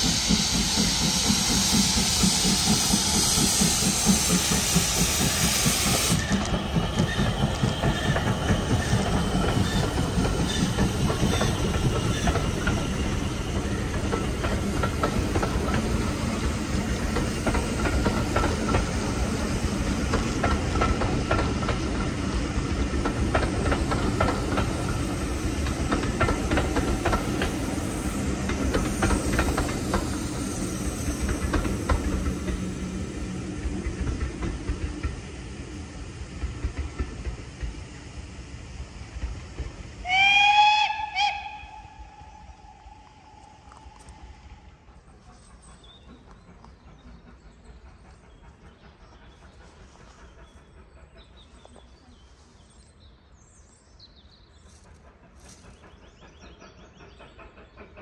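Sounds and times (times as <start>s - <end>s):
loud steam hiss: 0.0s - 50.6s
train rumbling along rails: 0.0s - 58.0s.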